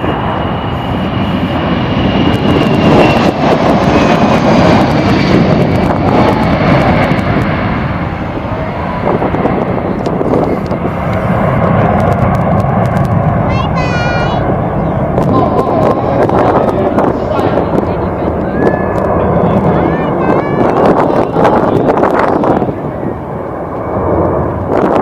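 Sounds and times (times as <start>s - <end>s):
high engine whine: 0.0s - 25.0s
jet engines roaring: 0.0s - 25.0s.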